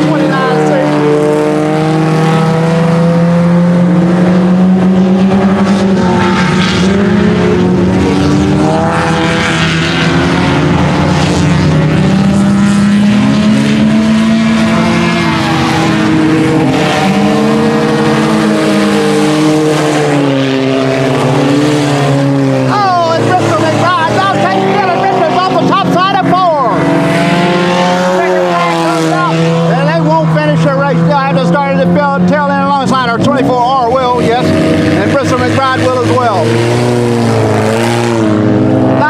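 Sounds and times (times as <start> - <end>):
race car engine revving: 0.0 - 39.0.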